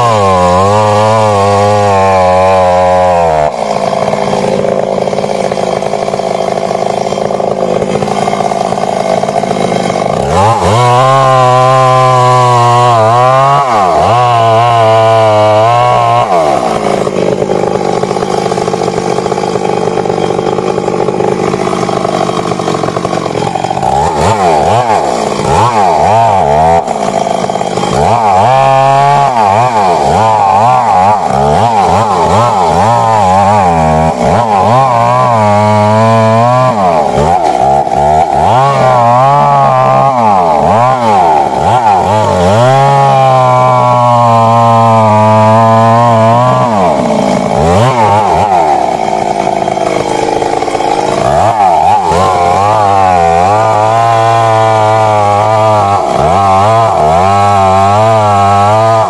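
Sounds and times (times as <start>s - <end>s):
chainsaw cutting tree: 0.0s - 59.0s.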